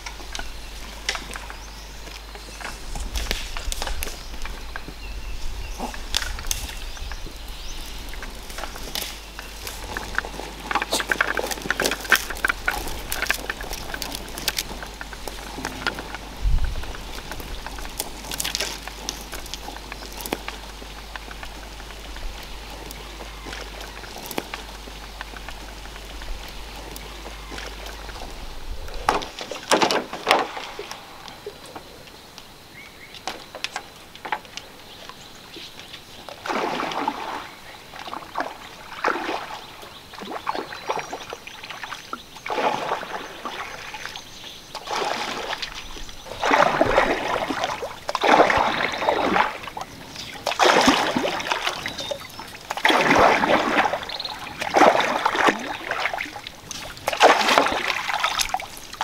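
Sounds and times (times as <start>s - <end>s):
water swishing and sloshing: 0.0s - 32.4s, 33.1s - 59.0s.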